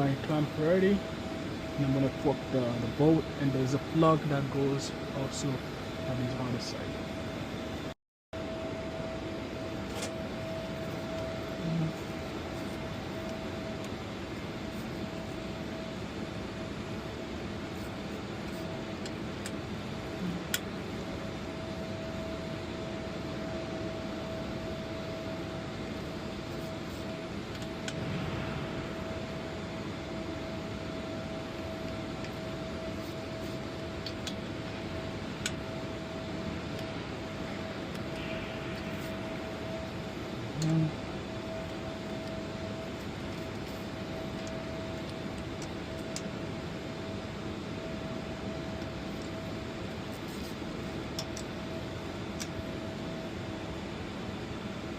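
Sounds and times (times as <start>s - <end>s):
ventilation hum: 0.0s - 54.9s.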